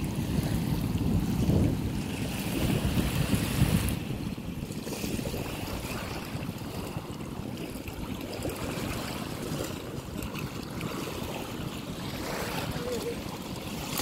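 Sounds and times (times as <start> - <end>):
river water washing: 0.0 - 14.0
wind rumbling on microphone: 0.0 - 14.0.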